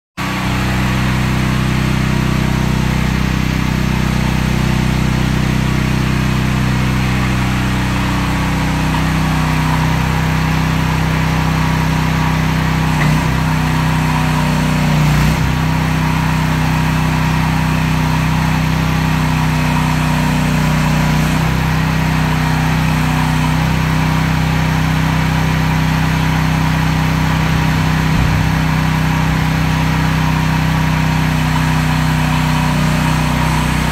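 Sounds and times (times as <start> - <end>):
excavator engine running: 0.2 - 33.9.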